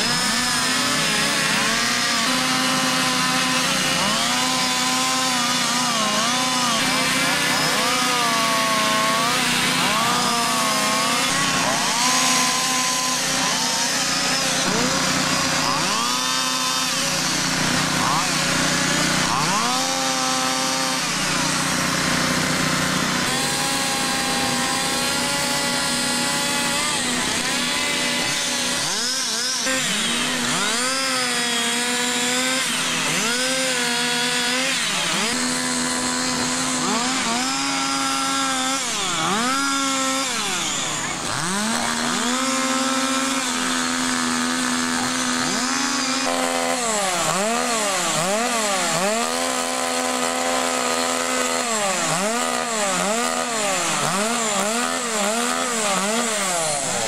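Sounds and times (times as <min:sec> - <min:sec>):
chainsaws carving wood: 0:00.0 - 0:57.0.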